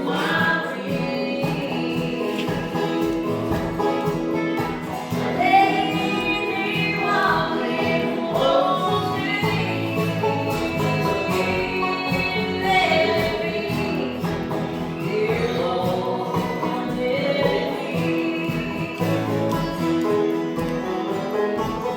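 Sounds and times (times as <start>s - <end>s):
person singing: 0.0s - 21.4s
acoustic string band playing: 0.0s - 21.9s
guitar: 0.0s - 21.9s.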